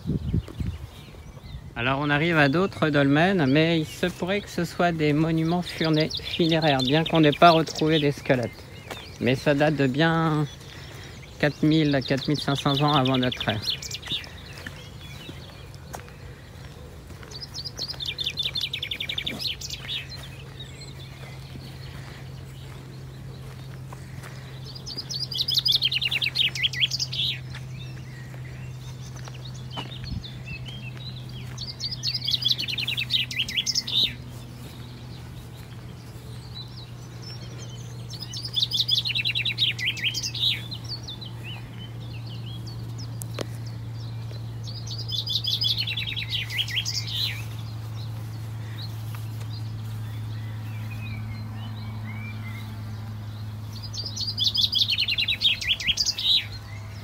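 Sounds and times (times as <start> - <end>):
songbird singing: 0.0 - 57.0
steady low hum: 3.3 - 57.0.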